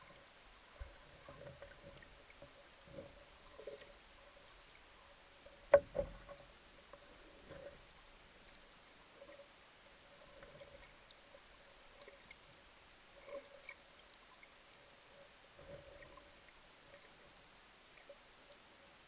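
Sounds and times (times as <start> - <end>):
small clicks and crackles: 0.0 - 18.8.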